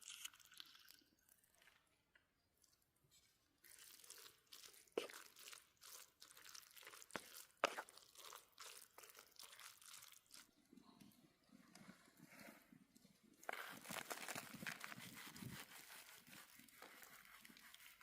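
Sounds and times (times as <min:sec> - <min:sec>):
faint crunching and crackling: 0:00.0 - 0:18.0.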